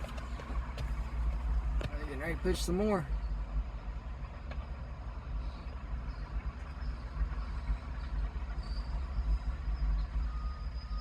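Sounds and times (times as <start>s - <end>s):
bulldozer diesel engine rumbling: 0.0s - 11.0s.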